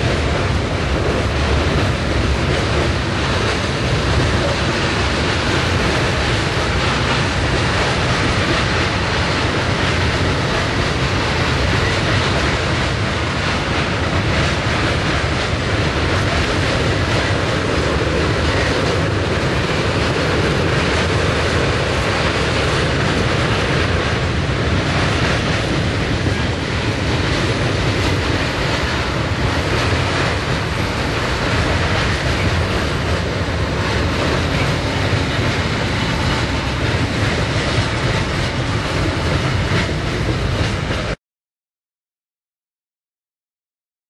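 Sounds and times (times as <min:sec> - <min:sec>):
train wheels rumbling on rails: 0:00.0 - 0:41.2.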